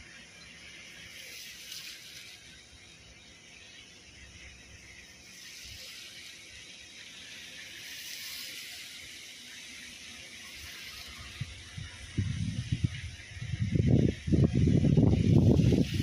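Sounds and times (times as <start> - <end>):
rain falling steadily: 0.0 - 13.5.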